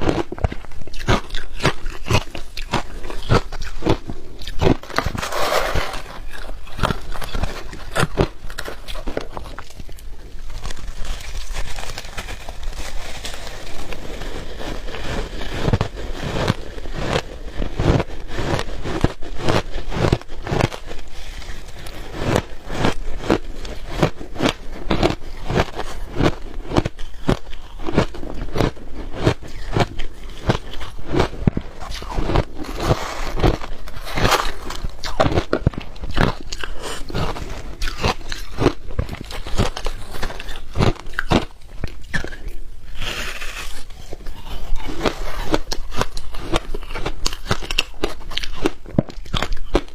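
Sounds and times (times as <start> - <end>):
shaved ice crunching: 0.9 - 41.3.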